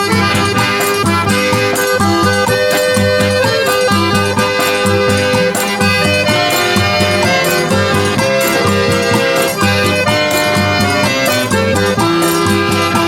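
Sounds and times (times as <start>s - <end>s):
accordion playing: 0.0s - 13.0s
percussion with steady beat: 0.0s - 13.0s.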